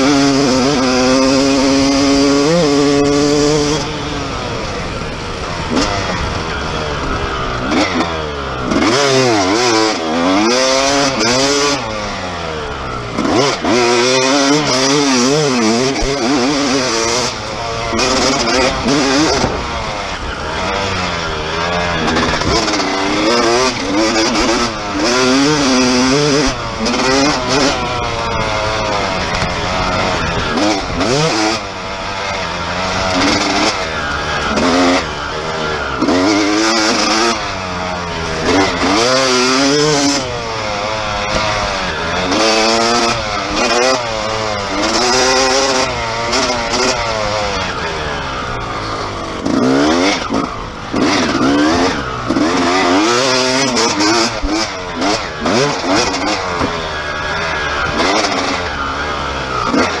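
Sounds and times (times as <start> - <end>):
dirt bike engine revving: 0.0 - 60.0.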